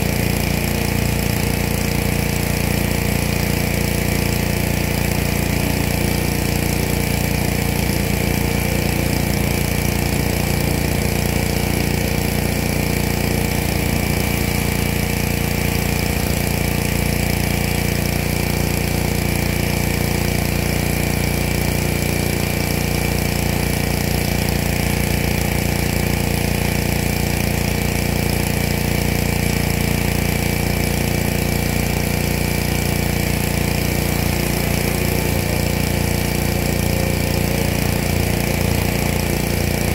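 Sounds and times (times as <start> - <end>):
pressure washer engine drone: 0.0 - 39.9.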